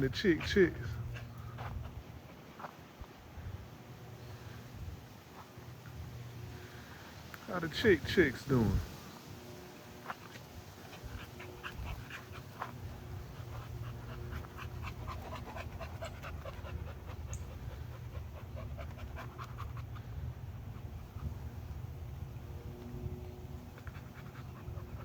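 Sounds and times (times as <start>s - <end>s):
dog panting: 0.0s - 6.8s, 9.4s - 25.0s.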